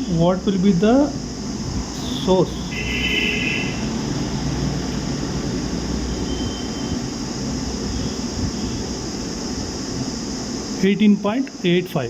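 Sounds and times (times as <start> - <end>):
constant high hiss: 0.0 - 12.0.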